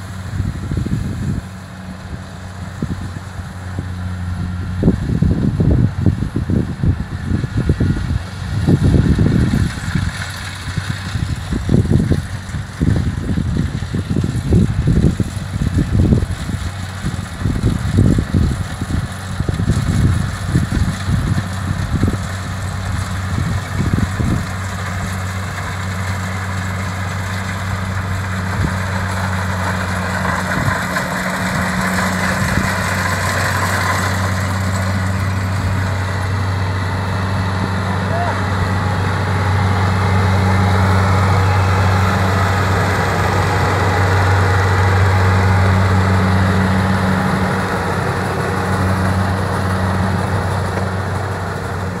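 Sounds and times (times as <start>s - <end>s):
combine harvester engine running: 0.0s - 52.0s.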